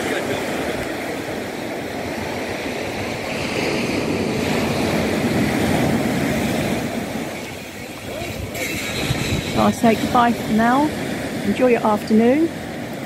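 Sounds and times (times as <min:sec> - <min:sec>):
sea waves breaking on beach: 0:00.0 - 0:13.0.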